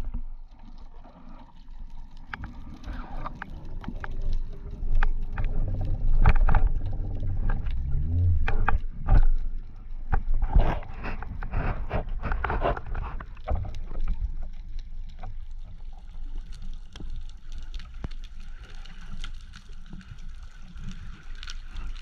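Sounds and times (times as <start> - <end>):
underwater rumble: 0.0 - 22.0.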